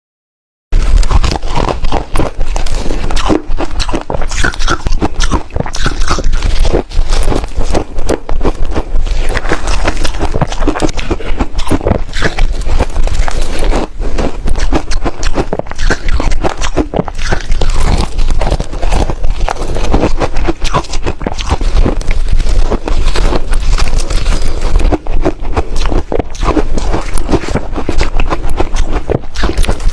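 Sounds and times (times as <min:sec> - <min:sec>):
ice crunching while chewed: 0:00.8 - 0:29.9.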